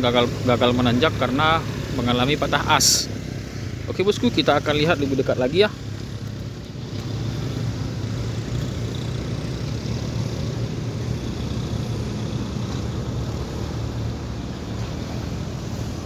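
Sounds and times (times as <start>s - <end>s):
road noise: 0.0s - 16.0s
vehicle engine humming: 0.0s - 16.0s.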